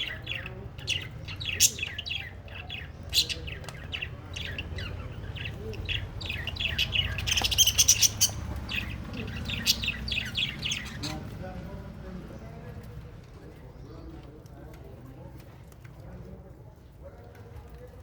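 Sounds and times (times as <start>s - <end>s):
birds chirping and chattering: 0.0s - 18.0s.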